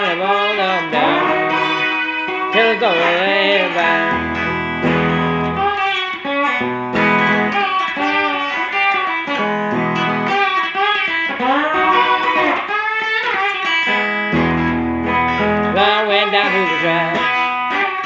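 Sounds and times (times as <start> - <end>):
lead guitar with bending notes: 0.0 - 18.0.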